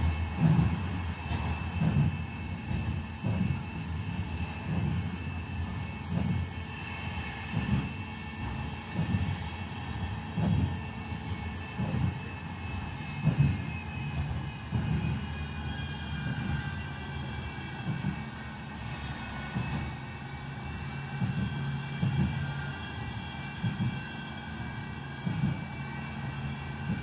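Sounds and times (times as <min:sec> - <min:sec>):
tram rumble from inside: 0:00.0 - 0:27.0.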